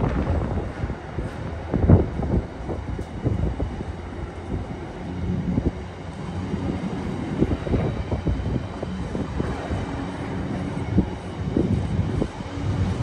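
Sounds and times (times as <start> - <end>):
train wheels rumbling: 0.0 - 13.0
wind on microphone: 0.0 - 13.0.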